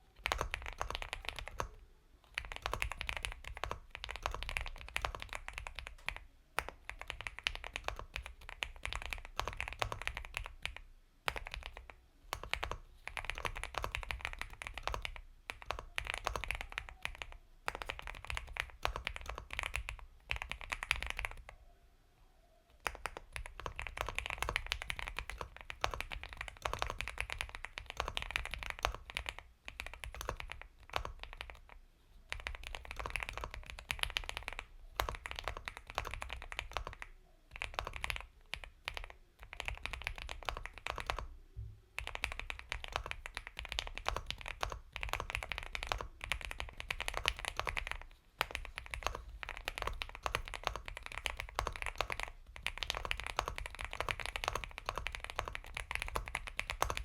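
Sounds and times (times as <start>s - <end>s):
mechanical keyboard typing: 0.2s - 21.5s, 22.8s - 41.3s, 42.0s - 57.0s.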